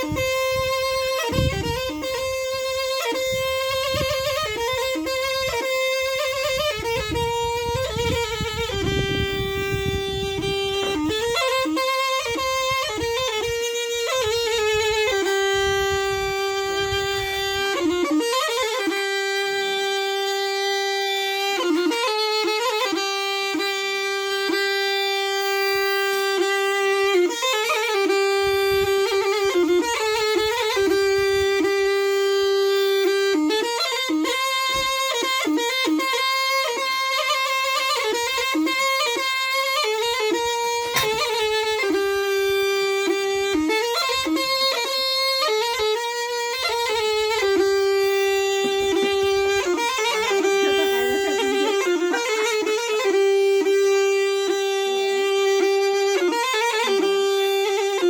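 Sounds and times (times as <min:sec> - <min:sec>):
zurna folk melody: 0:00.0 - 0:58.0.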